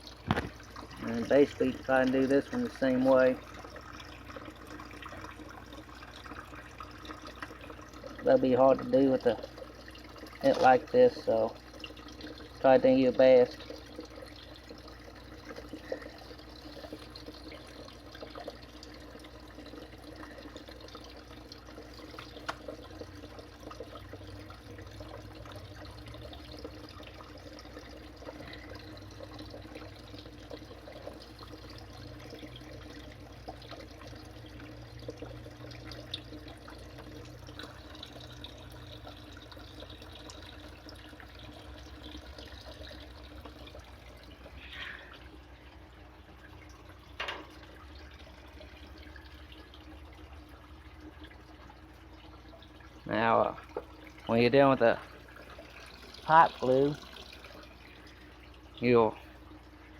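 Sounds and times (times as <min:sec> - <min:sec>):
low steady hum: 0:00.0 - 0:59.9
water trickling and dripping: 0:00.0 - 0:59.9.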